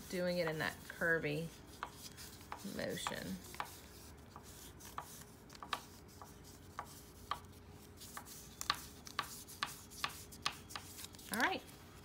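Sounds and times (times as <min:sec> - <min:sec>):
crayon scratching on paper: 0:00.0 - 0:11.6.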